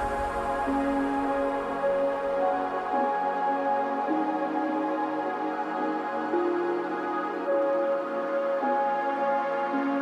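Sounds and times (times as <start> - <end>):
calm ambient electronic music: 0.0 - 10.0.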